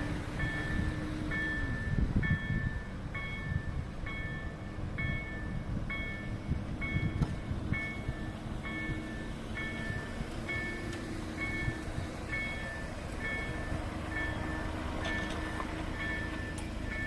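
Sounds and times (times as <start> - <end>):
low train drone: 0.0 - 17.0
train rumble and wheel noise: 0.0 - 17.0
two-tone warning beeps: 0.4 - 17.0.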